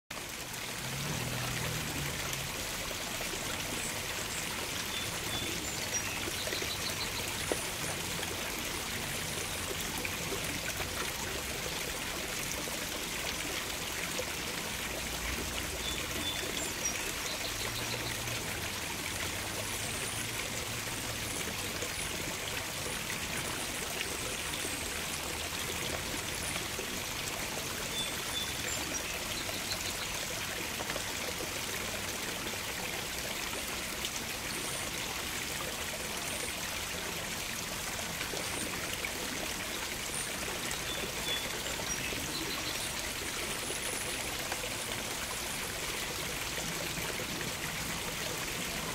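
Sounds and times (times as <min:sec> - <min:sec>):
water running over rocks: 0:00.1 - 0:48.9.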